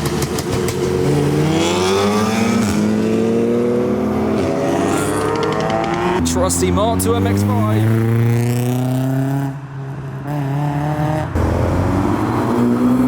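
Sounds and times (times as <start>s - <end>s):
car engine accelerating past: 0.5s - 9.6s, 10.2s - 13.0s.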